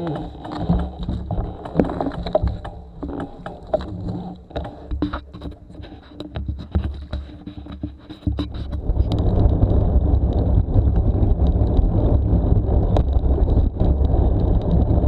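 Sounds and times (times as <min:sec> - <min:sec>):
bicycle rattling over rough ground: 0:00.0 - 0:15.0
wind rumbling on microphone: 0:00.0 - 0:15.0.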